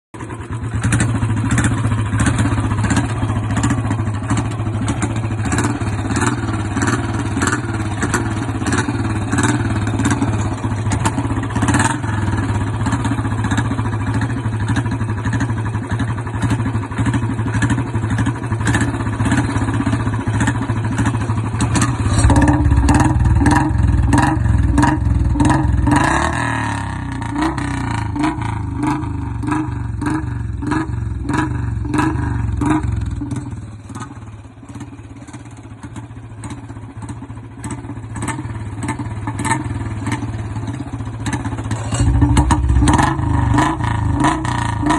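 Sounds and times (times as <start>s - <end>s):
motorcycle engine thumping: 0.2s - 44.9s.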